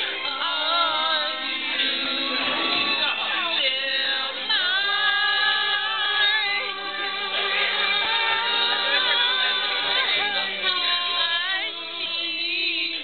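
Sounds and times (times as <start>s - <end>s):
karaoke backing music: 0.0s - 13.0s
women singing karaoke together: 0.0s - 13.0s.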